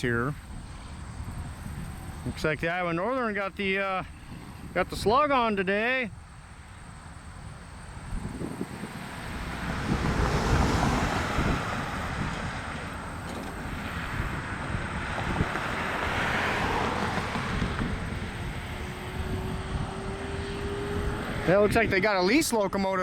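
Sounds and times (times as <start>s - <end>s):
wind buffeting microphone: 0.0s - 22.7s.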